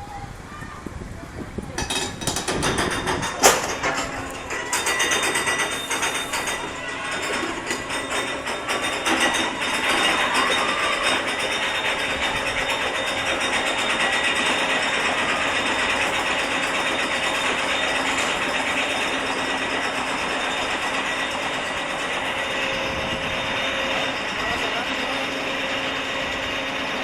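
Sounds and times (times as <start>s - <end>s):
roller coaster lift clattering: 0.0s - 27.0s
mechanical whine: 1.6s - 27.0s.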